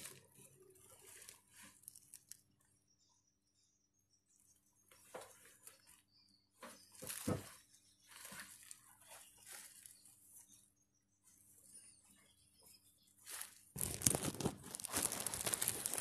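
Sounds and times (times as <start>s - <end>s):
rustling and crinkling: 0.0s - 2.8s, 4.9s - 16.0s.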